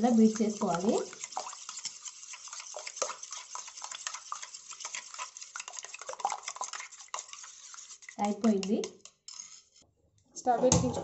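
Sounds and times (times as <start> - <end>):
spoon beating eggs in metal bowl: 0.0 - 9.8.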